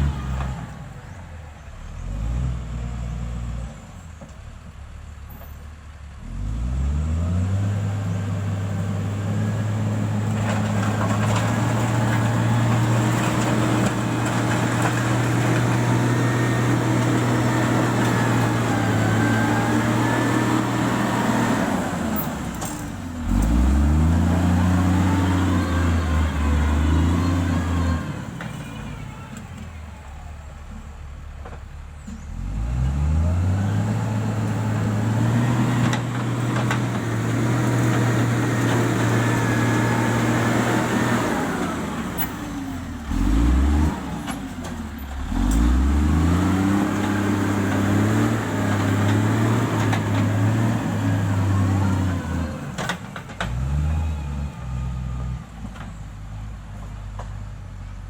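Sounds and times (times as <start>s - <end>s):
diesel engine revving: 0.0s - 4.0s, 6.0s - 57.3s.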